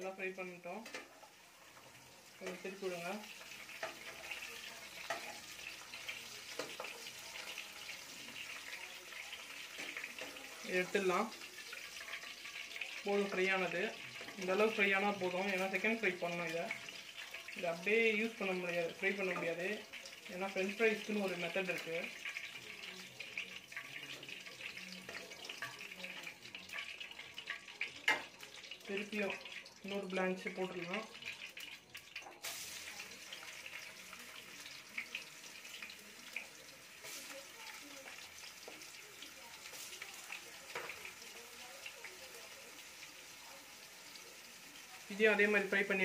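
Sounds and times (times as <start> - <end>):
potatoes sizzling in hot oil: 0.0 - 46.0.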